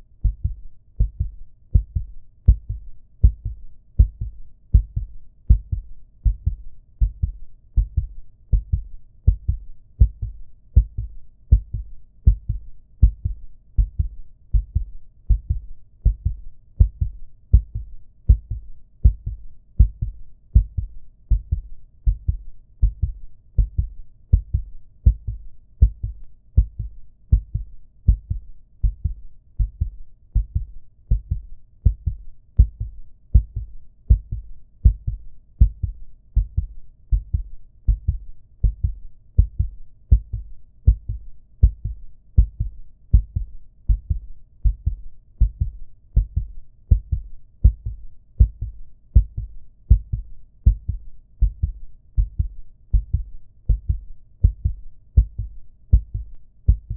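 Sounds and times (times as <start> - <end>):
heartbeat thumps: 0.0 - 56.9.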